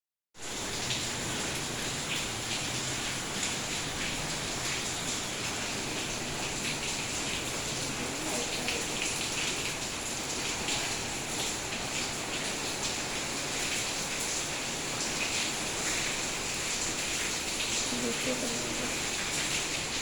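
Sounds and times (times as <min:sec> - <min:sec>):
steady rain falling: 0:00.4 - 0:20.0.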